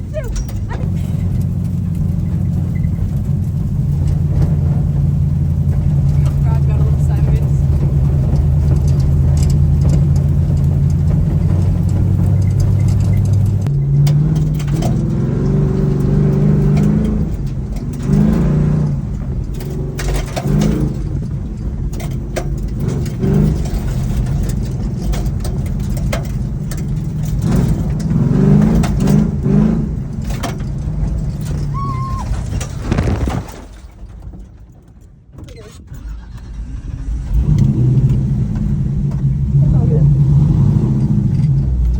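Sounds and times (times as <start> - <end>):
truck engine revving: 0.0 - 33.8, 35.8 - 41.9.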